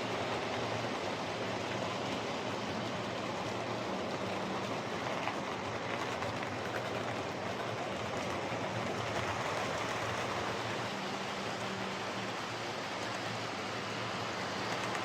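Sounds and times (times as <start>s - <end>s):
model train motor humming: 0.0s - 15.0s
wheels rolling on rails: 0.0s - 15.0s.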